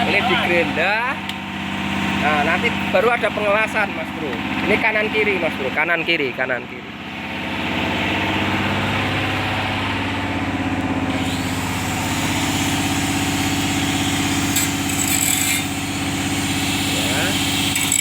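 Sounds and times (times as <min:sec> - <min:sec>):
large engine idling: 0:00.0 - 0:14.9, 0:15.7 - 0:17.7.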